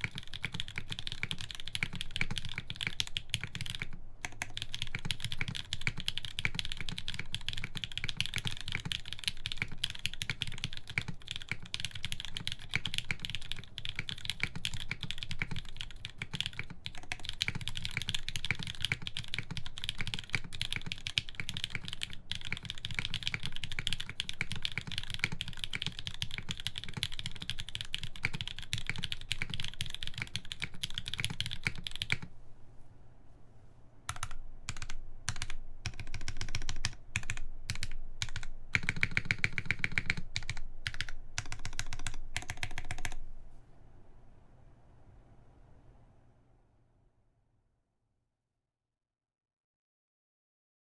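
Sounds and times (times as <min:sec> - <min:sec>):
mechanical keyboard typing: 0:00.0 - 0:32.3, 0:34.1 - 0:43.2.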